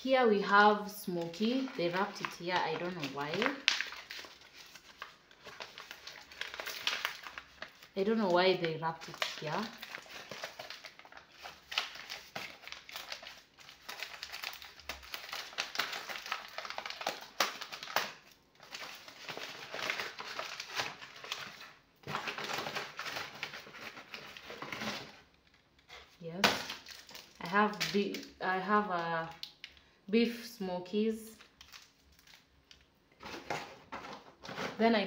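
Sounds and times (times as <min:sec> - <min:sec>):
plastic bag crinkling: 0:00.0 - 0:29.9, 0:31.3 - 0:34.9.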